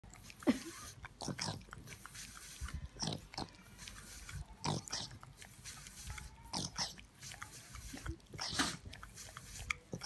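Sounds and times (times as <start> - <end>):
dog breathing noisily: 0.0 - 10.0
dog snorting: 0.1 - 10.0.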